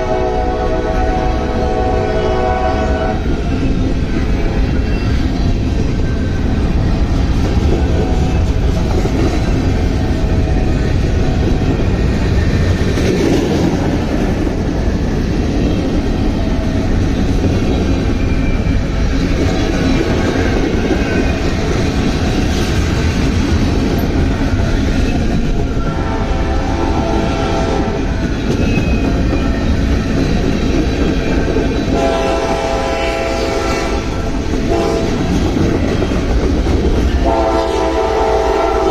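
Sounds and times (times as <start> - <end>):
freight train rumbling on rails: 0.0 - 38.9.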